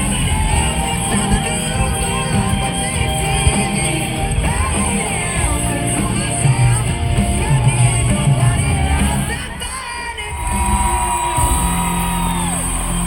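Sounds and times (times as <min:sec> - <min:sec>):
live rock band: 0:00.0 - 0:13.0
person singing: 0:00.0 - 0:13.0.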